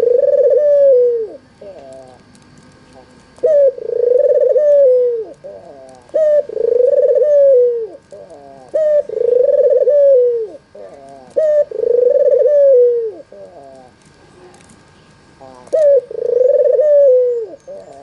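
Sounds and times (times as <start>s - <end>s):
dove cooing: 0.0s - 2.2s, 2.9s - 14.0s, 15.4s - 18.0s.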